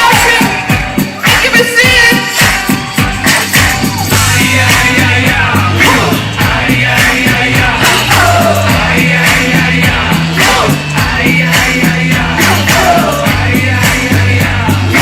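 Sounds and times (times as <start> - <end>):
live band playing electro-pop: 0.0 - 15.0.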